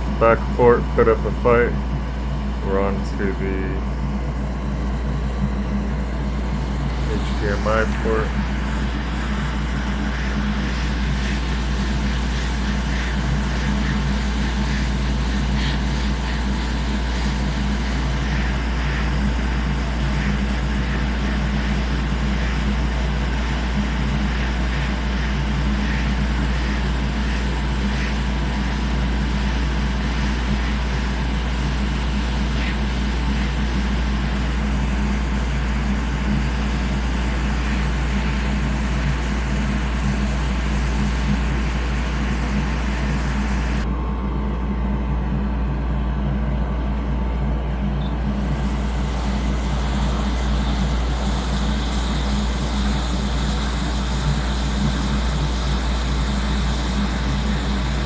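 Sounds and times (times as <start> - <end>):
hot-air blower whirring: 0.0 - 58.0
low electrical hum: 0.0 - 58.0.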